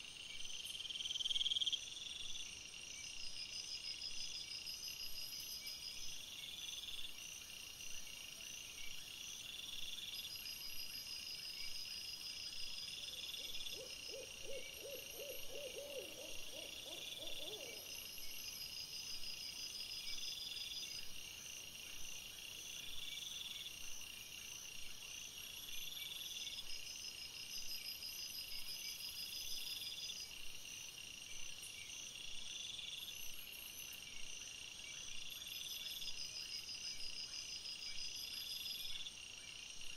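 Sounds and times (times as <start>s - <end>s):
low pulsing insect call: 0.0s - 39.9s.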